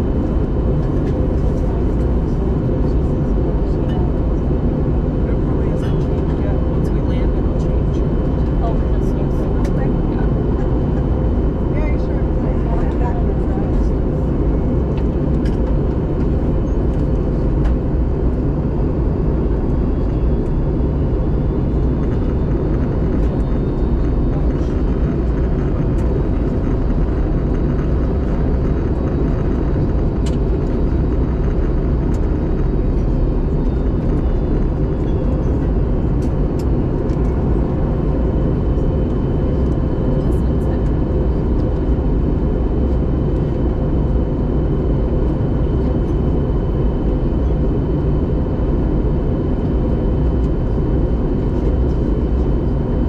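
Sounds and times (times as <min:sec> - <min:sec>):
airliner engines rumbling: 0:00.0 - 0:53.0.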